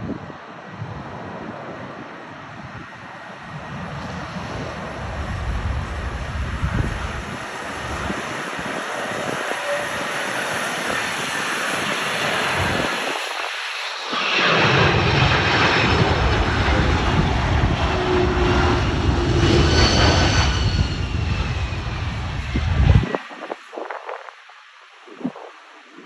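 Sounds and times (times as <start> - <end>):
wind buffeting microphone: 0.0 - 24.4
jet engines roaring: 0.9 - 24.4.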